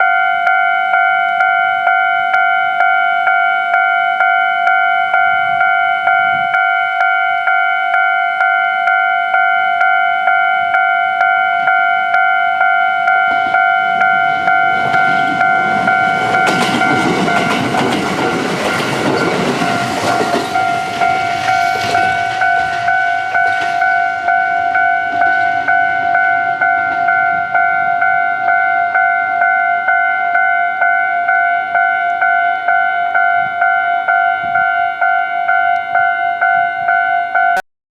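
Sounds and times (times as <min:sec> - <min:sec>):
electric train rumbling: 0:00.0 - 0:37.6
level-crossing warning bell: 0:00.0 - 0:37.6.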